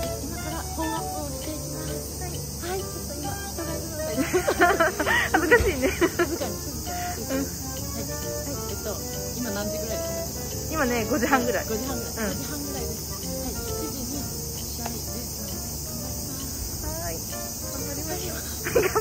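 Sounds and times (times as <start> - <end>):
faint voices: 0.0 - 19.0
high-pitched insect chorus: 0.0 - 19.0.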